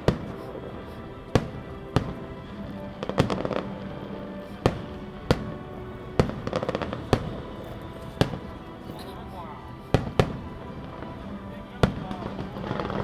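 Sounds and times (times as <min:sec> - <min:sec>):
firework crackling: 0:00.0 - 0:13.0
music playing: 0:00.0 - 0:13.0.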